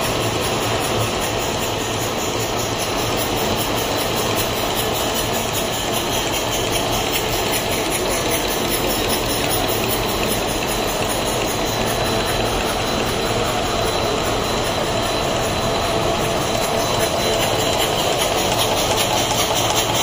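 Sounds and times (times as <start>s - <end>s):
machine running steadily: 0.0s - 20.0s.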